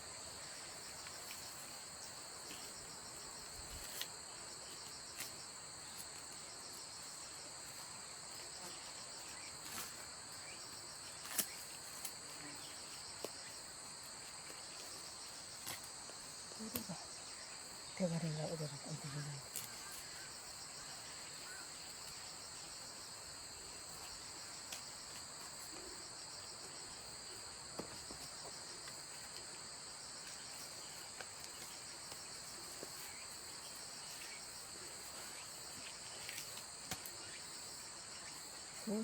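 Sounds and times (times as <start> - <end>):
crickets trilling: 0.0 - 39.0.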